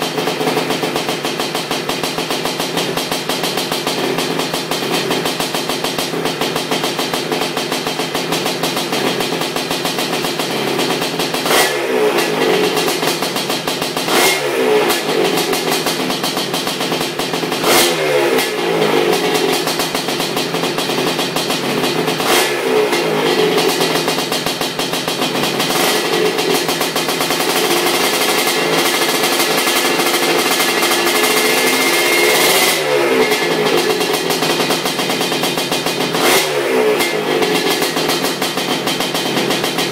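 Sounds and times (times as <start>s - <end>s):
two-stroke engine idling and revving: 0.0s - 39.9s.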